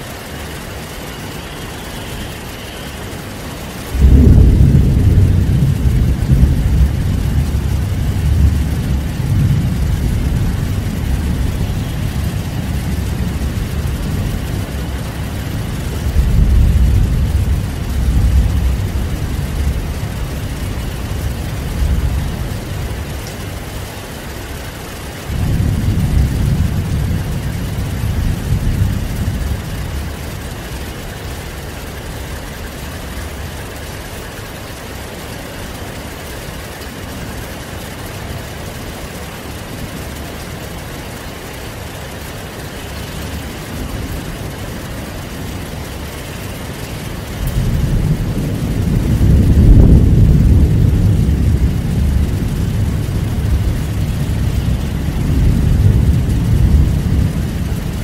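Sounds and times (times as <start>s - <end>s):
heavy rain falling: 0.0s - 58.0s
rolling thunder: 3.8s - 24.3s, 25.0s - 35.4s, 36.2s - 58.0s.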